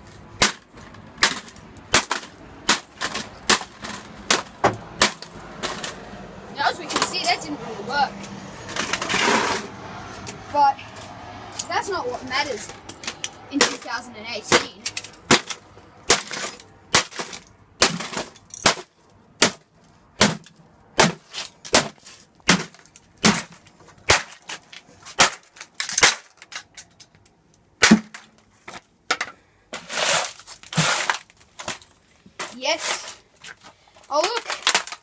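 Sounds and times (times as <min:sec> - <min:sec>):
crunching and scraping: 0:00.0 - 0:35.0.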